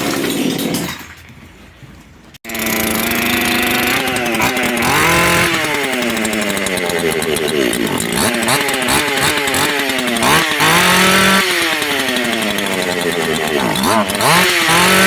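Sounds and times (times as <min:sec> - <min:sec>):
chainsaw engine revving: 0:02.5 - 0:15.0.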